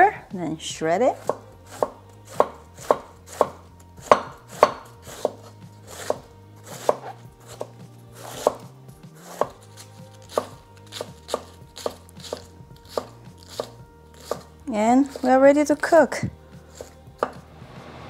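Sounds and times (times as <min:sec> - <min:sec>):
knife slicing cabbage on board: 0:01.1 - 0:15.3, 0:16.7 - 0:17.4.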